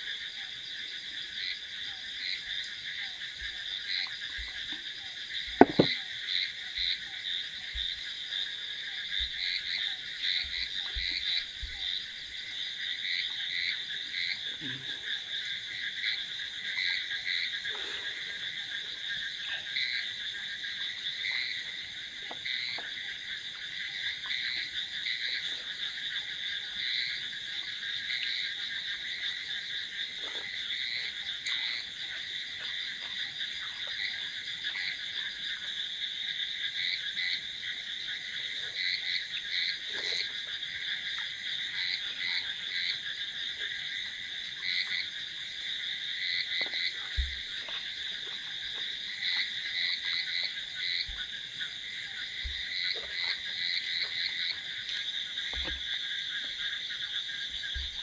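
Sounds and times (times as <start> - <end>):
frogs calling: 0.0 - 58.0.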